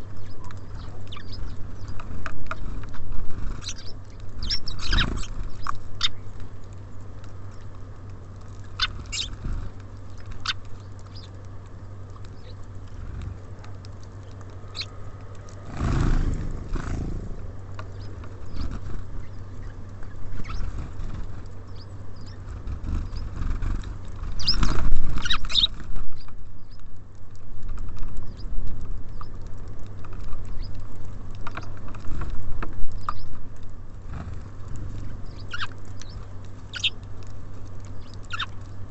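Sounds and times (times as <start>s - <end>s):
birds pecking clicks: 0.0s - 38.9s
birds scuffling: 0.0s - 38.9s
low steady hum: 0.0s - 38.9s
songbirds chirping: 0.0s - 38.9s.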